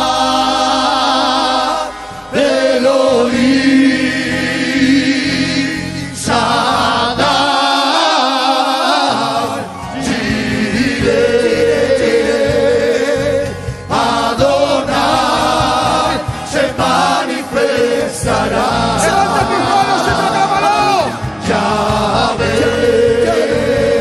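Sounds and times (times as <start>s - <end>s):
church choir singing worship song: 0.0s - 24.0s.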